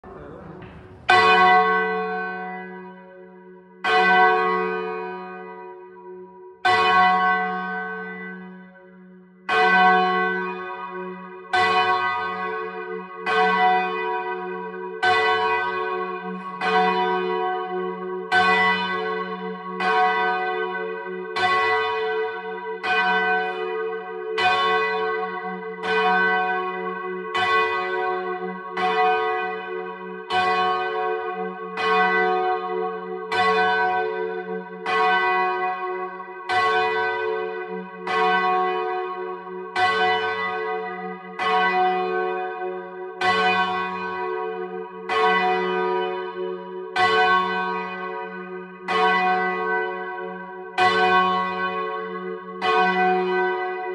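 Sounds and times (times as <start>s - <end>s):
church bell striking: 0.1s - 53.9s.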